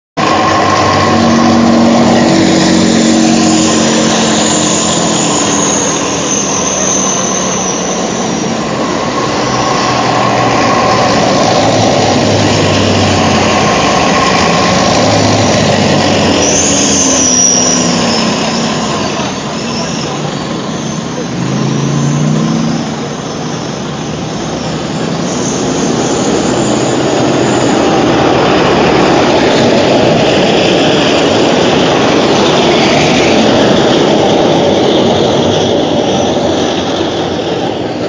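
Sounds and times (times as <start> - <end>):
high whine: 0.2 - 38.0
tanks and trucks driving past: 0.2 - 38.0.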